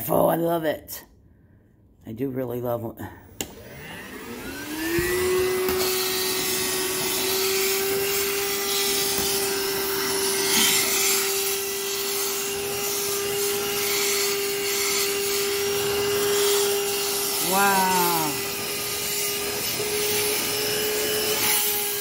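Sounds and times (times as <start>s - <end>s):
handheld vacuum cleaner whine: 3.2s - 22.0s.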